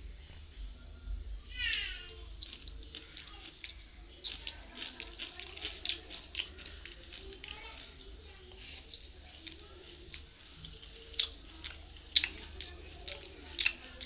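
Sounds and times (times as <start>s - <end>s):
wet squishing of food: 1.5s - 14.0s.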